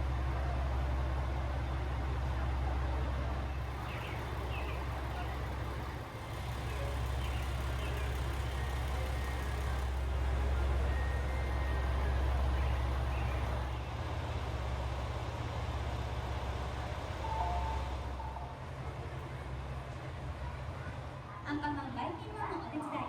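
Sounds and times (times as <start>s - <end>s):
diesel engine idling: 0.0s - 21.3s.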